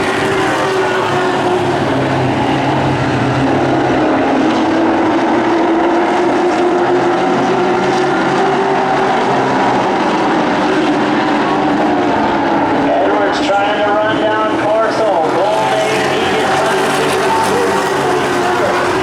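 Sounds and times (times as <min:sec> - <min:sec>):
race truck engines droning: 0:00.0 - 0:19.0.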